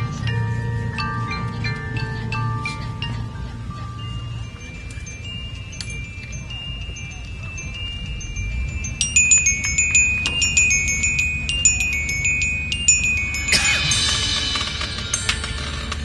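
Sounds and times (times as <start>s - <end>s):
mallet percussion melody: 0.0s - 16.0s
shimmering high ringing wash: 0.0s - 16.0s.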